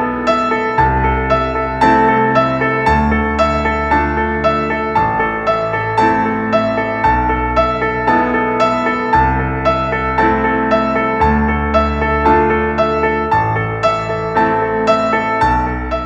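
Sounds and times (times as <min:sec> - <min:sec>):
low bass notes: 0:00.0 - 0:16.0
piano-like keyboard notes: 0:00.0 - 0:16.0.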